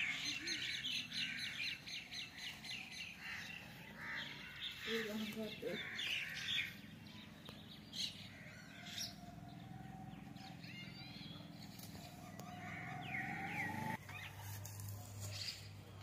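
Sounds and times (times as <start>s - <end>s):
birds chirping: 0.0s - 14.4s.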